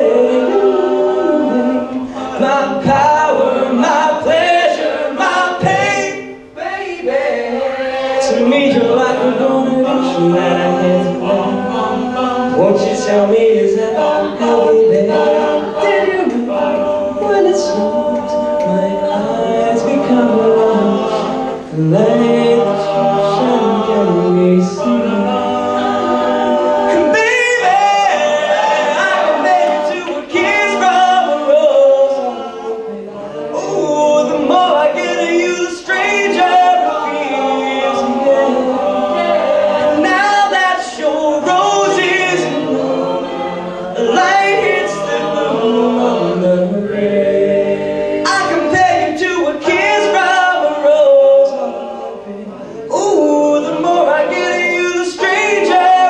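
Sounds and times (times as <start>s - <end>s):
male a cappella singing: 0.0s - 56.0s.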